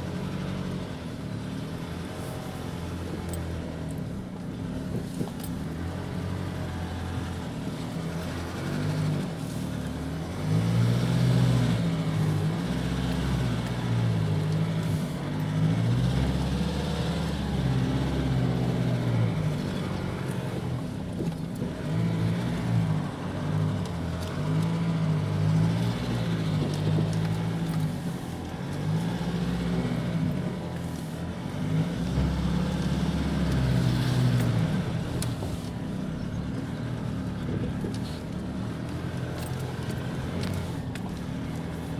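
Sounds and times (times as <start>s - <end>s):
diesel engine revving under load: 0.0s - 41.9s.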